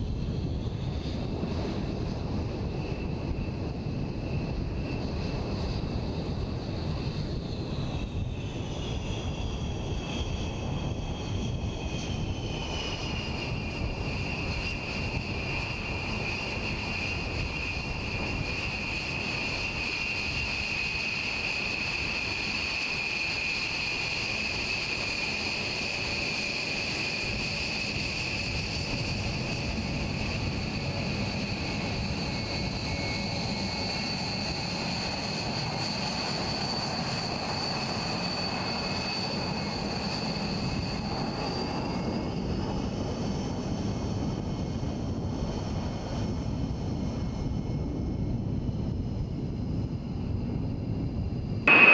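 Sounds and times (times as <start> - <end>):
jet engines taxiing: 0.0 - 51.9.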